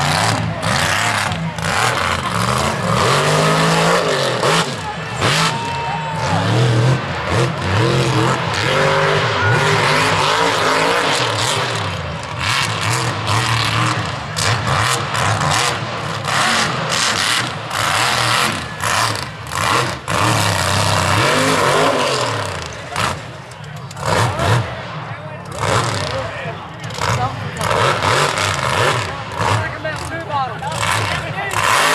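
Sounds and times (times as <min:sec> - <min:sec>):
truck engine revving: 0:00.0 - 0:31.9.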